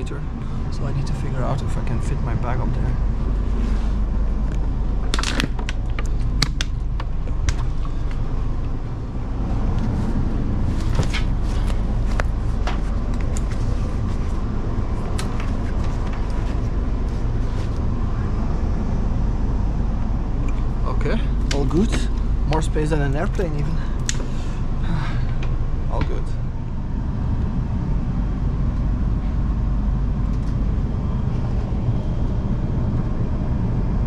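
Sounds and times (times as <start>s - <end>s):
low hum in train carriage: 0.0s - 34.0s.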